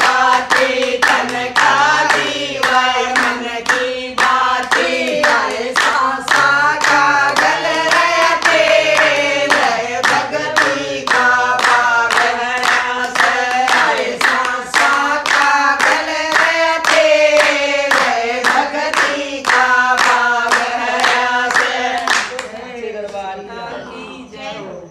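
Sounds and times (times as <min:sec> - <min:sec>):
hand clapping: 0:00.0 - 0:23.2
women singing together: 0:00.0 - 0:24.9.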